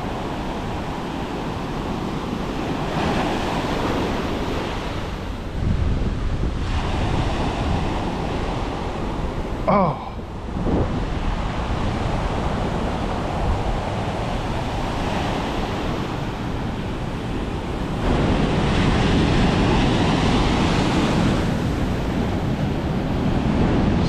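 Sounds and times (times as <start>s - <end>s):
storm surf breaking: 0.0s - 24.0s
wind buffeting microphone: 0.0s - 24.0s.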